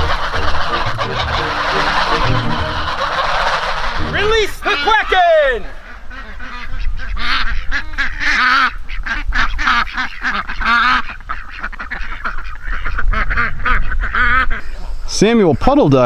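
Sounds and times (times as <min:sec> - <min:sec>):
ducks quacking: 0:00.0 - 0:15.6.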